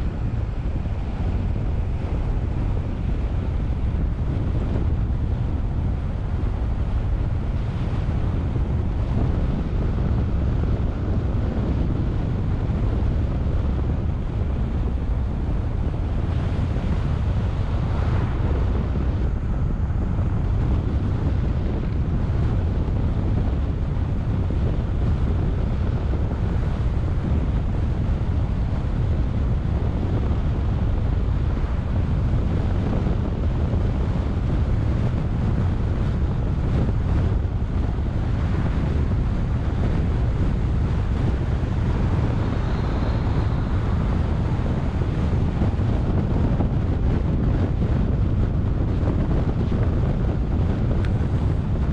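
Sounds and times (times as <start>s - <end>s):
car tyre and road noise: 0.0s - 51.9s
wind buffeting microphone: 0.0s - 51.9s.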